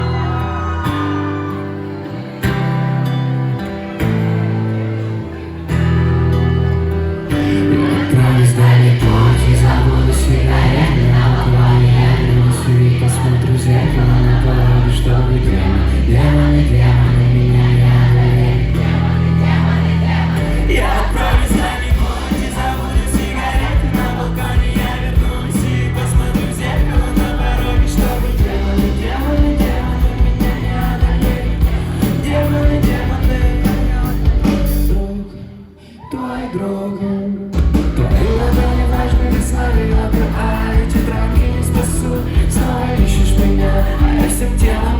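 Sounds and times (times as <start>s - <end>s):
acoustic rock band playing: 0.0s - 44.9s
person singing: 7.3s - 19.0s, 20.5s - 44.9s.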